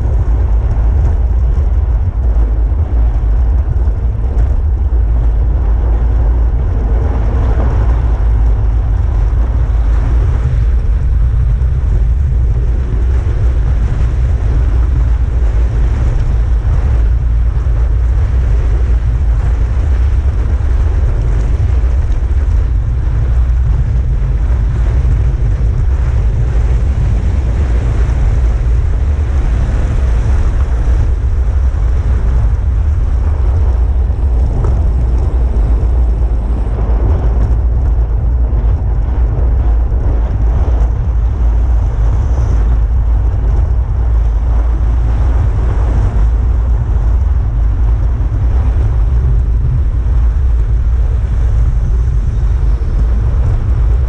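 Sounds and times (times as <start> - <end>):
wind roar on camera microphone: 0.0 - 54.0.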